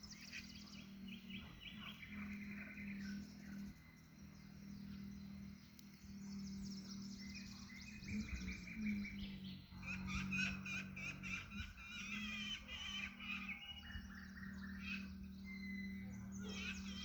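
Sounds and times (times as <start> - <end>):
songbirds chirping and trilling: 0.0 - 17.0
steady low hum: 0.0 - 17.0.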